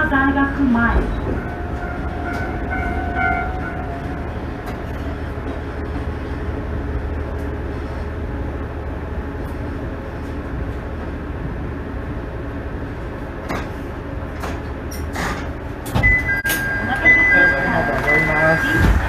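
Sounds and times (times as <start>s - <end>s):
railcar engine and wheels rumble: 0.0s - 19.0s.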